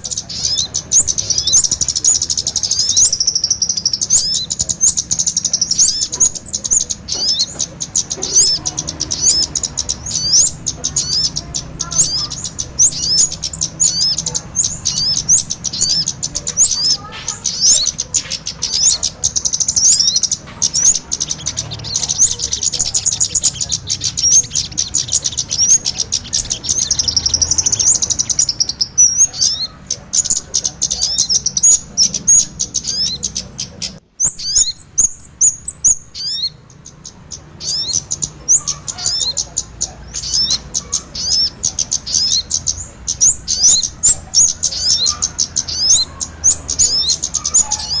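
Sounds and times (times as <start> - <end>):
birds chirping and trilling: 0.0 - 48.0.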